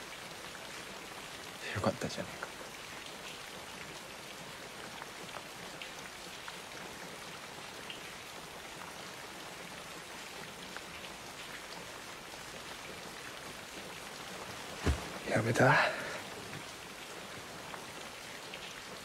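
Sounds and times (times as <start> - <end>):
sharp raindrops: 0.0 - 19.0
steady rain falling: 0.0 - 19.0.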